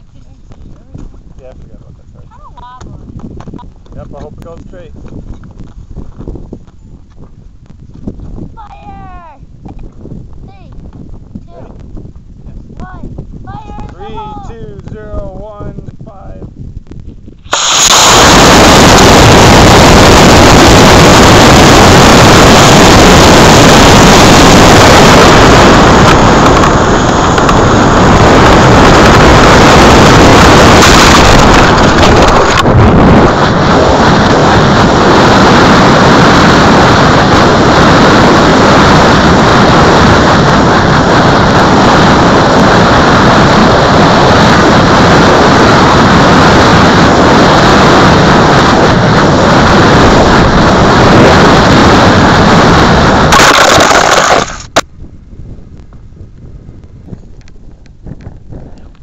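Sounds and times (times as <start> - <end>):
distorted wind rushing over microphone: 0.0 - 59.0.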